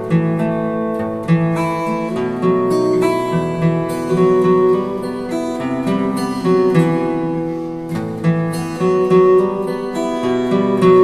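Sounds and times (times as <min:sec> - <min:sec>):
fingerstyle acoustic guitar: 0:00.0 - 0:11.0.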